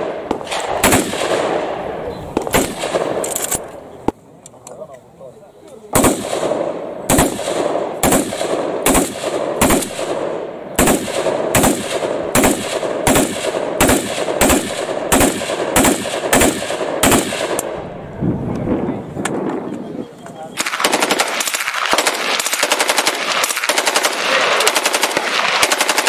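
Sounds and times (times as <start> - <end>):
rifle single shots: 0.0 - 4.2, 5.9 - 17.8, 20.6 - 26.0.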